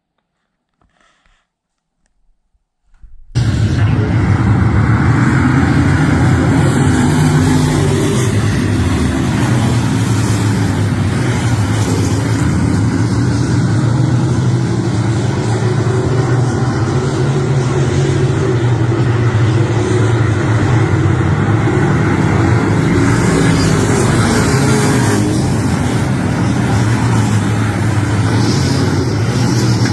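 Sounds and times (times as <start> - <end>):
vehicle engine droning: 3.4 - 29.9.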